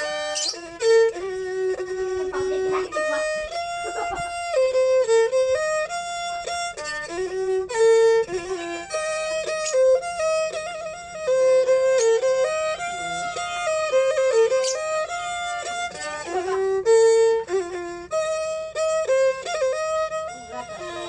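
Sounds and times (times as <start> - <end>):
bowed fiddle melody: 0.0 - 21.0.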